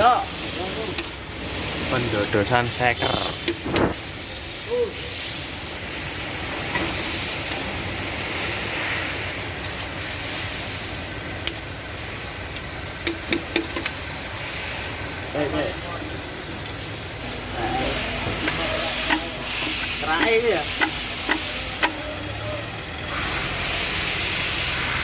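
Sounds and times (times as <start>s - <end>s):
air spray hissing: 0.2s - 25.0s.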